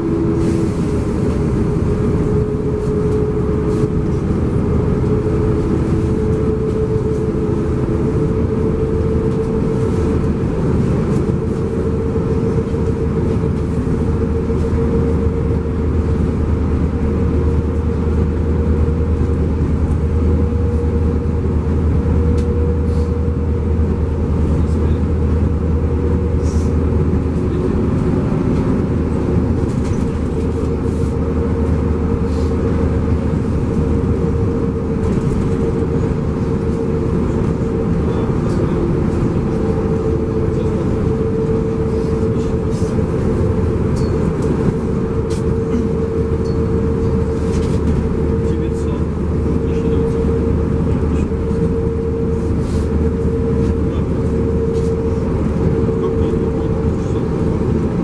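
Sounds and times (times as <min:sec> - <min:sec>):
bus engine and road noise: 0:00.0 - 0:58.0
steady whine: 0:00.0 - 0:58.0.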